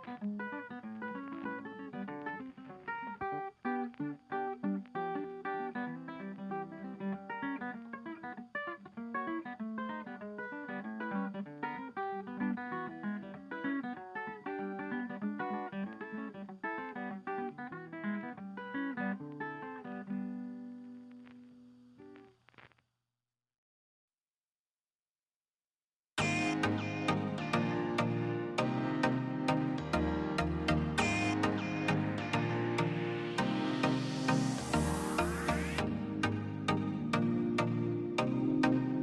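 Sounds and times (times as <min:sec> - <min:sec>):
fingerpicked acoustic guitar: 0:00.0 - 0:22.4, 0:26.2 - 0:39.0.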